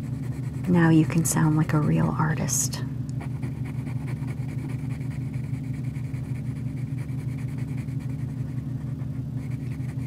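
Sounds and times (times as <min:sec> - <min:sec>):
pencil scratching on paper: 0:00.0 - 0:01.9, 0:03.2 - 0:10.0
low background hum: 0:00.0 - 0:10.0.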